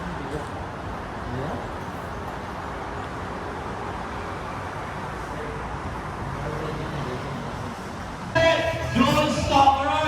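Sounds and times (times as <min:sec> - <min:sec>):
steady vehicle noise: 0:00.0 - 0:10.0.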